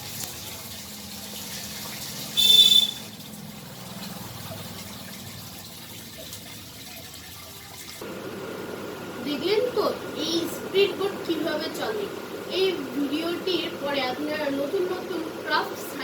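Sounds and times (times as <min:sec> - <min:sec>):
small boat motor in water: 0:00.0 - 0:07.3, 0:07.9 - 0:16.0.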